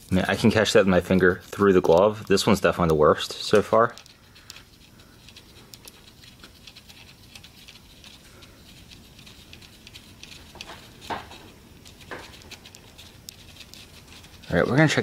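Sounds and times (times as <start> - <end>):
glove rubbing on metal: 0.0 - 15.0.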